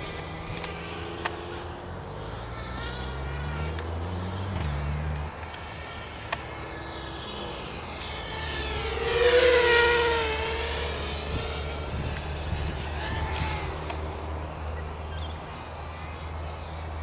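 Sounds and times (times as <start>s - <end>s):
quadcopter propellers whining: 0.0s - 17.0s.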